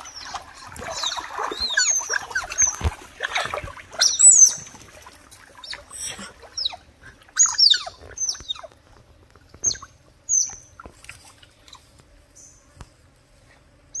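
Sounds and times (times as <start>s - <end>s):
otters chirping and squeaking: 0.0s - 4.9s, 5.5s - 12.5s.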